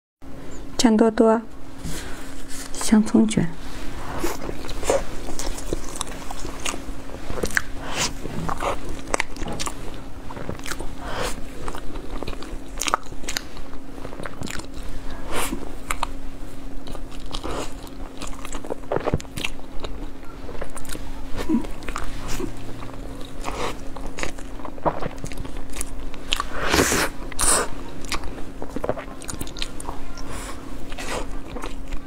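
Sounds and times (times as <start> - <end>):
faint low hum: 0.2 - 32.0
crunchy chewing: 4.0 - 32.0.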